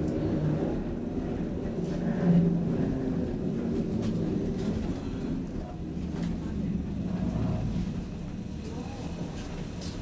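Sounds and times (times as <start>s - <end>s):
tram rumbling on rails: 0.0s - 10.0s.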